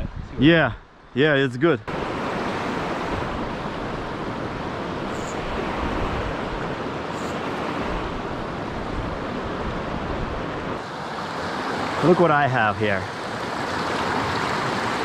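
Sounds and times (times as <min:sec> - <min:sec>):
river rushing over stones: 0:01.9 - 0:15.0.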